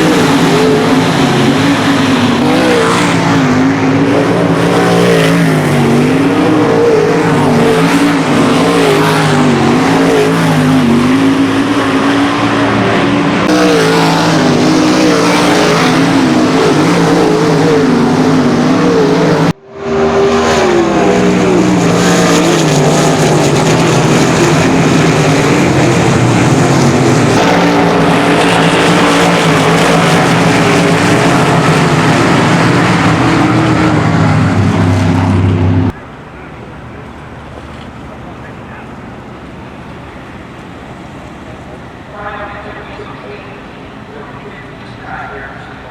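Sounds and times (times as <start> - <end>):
racing car engines revving: 0.0 - 45.9.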